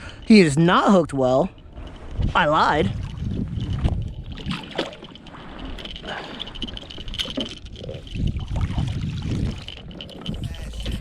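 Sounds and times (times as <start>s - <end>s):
water splashing: 1.2s - 11.0s.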